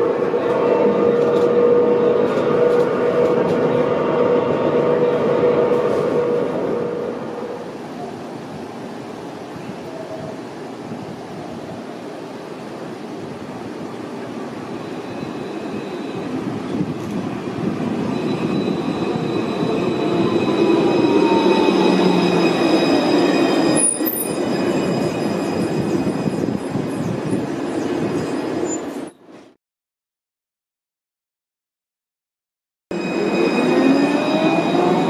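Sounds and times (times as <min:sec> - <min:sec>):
tram running noise: 0:00.0 - 0:29.6, 0:32.9 - 0:35.0.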